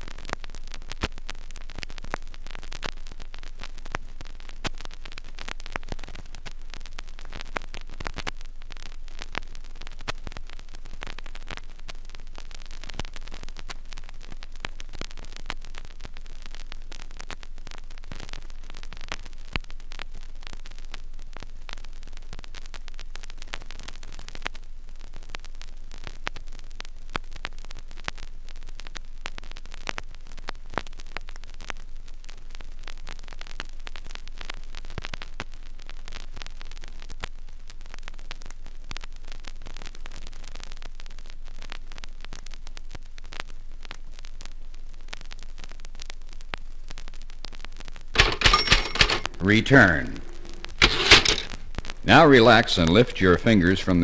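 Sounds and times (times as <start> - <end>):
vinyl crackles and pops: 0.0 - 48.3, 49.0 - 54.0
vinyl record hiss: 0.0 - 54.0.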